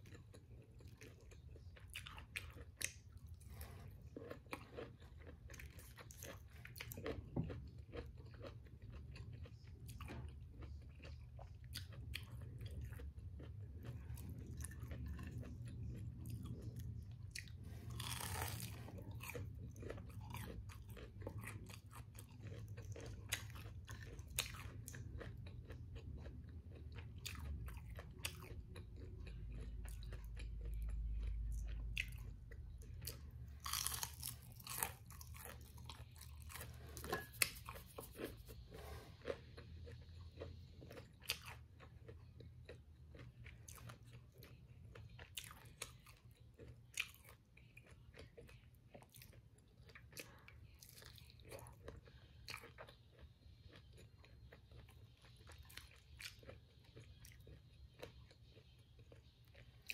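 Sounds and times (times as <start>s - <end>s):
person chewing crispy food: 0.0s - 59.9s.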